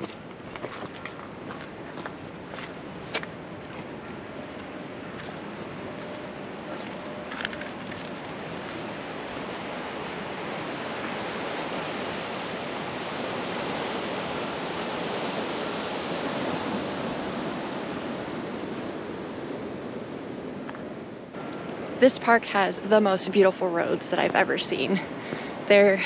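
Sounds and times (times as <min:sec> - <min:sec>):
ocean surf on rocky shore: 0:00.0 - 0:26.0.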